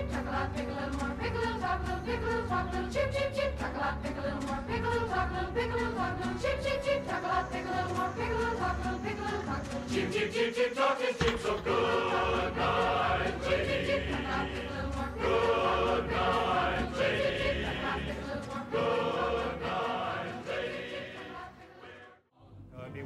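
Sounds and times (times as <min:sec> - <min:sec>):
choir-like singing music: 0:00.0 - 0:23.0.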